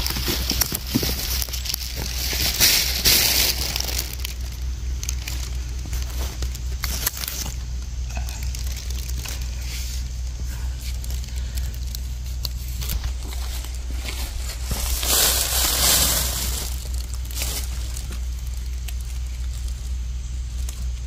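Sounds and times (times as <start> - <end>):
pine needles crackling underfoot: 0.0 - 21.0.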